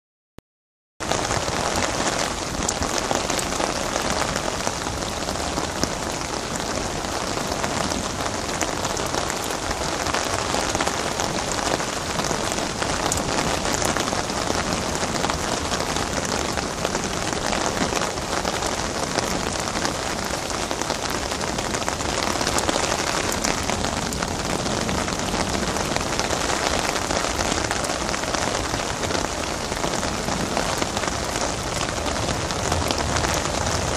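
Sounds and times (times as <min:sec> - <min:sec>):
heavy rain pouring: 0:01.0 - 0:33.9.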